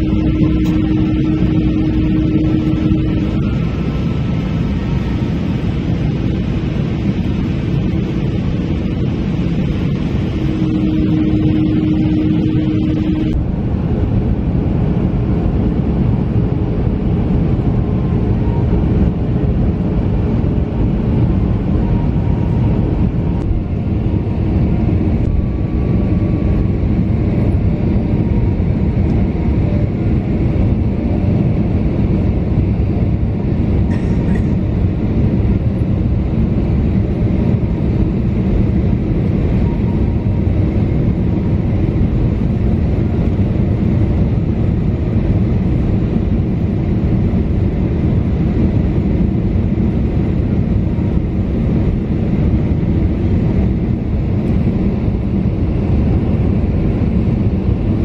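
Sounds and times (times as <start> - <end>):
jet engine roar in cabin: 0.0 - 58.0.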